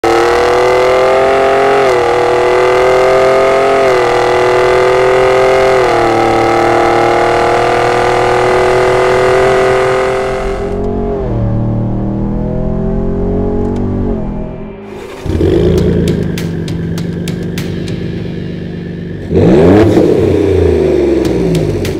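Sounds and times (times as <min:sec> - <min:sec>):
truck exhaust accelerating: 0:00.0 - 0:21.9
dull engine hum inside cab: 0:00.1 - 0:21.9.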